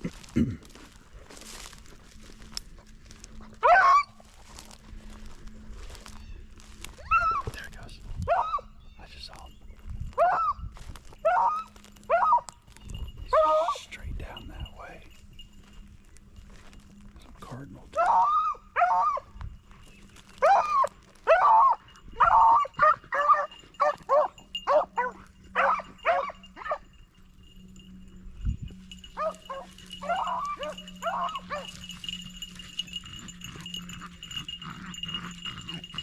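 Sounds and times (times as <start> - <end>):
dogs baying and barking: 0.0 - 9.4, 10.1 - 16.9, 17.8 - 36.0.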